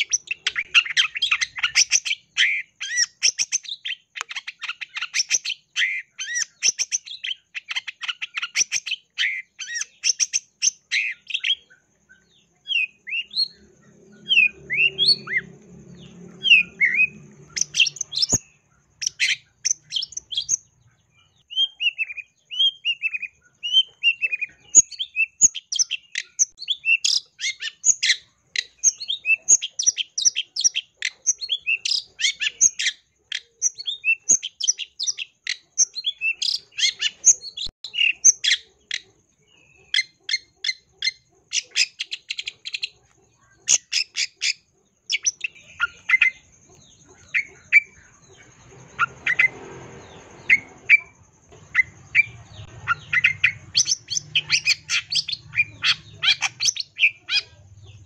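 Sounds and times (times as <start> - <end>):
bird singing chattering song: 0.0 - 58.0.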